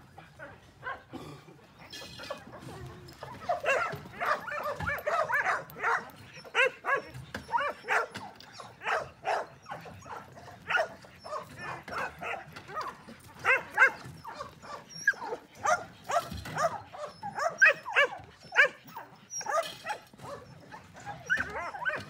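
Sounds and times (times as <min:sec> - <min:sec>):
dog barking and yipping: 0:00.4 - 0:01.1, 0:01.9 - 0:22.0.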